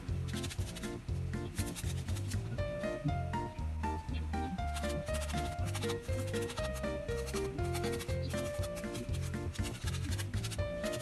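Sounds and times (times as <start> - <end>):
pulsing bass: 0.0 - 10.9.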